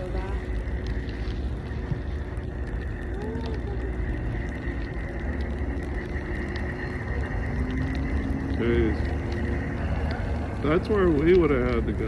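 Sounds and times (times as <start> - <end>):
car driving on snow: 0.0 - 12.0
light crackling ticks: 0.0 - 12.0
low rumble: 0.0 - 12.0.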